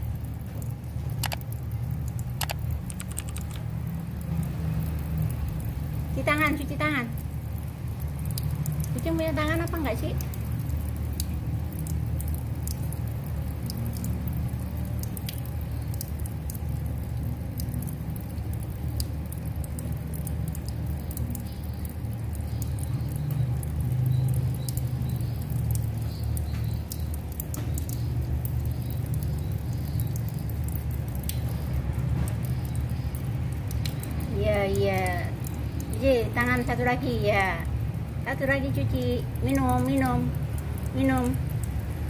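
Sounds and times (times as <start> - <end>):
water running from a tap: 0.0 - 42.0.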